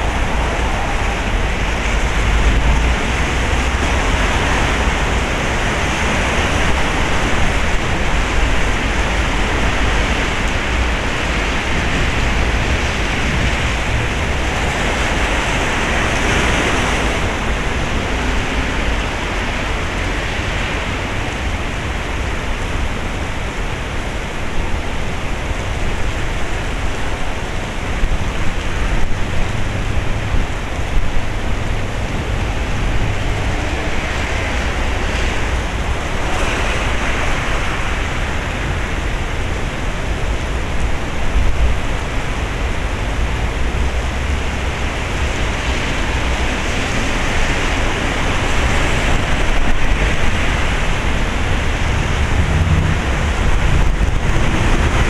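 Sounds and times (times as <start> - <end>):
heavy rain pouring: 0.0 - 55.0
wind rumbling on microphone: 0.0 - 55.0.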